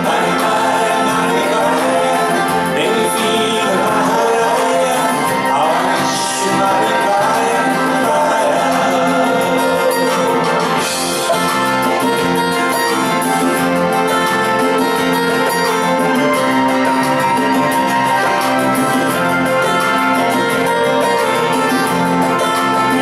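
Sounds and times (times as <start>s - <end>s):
electric guitar: 0.0s - 23.0s
live pop band playing: 0.0s - 23.0s.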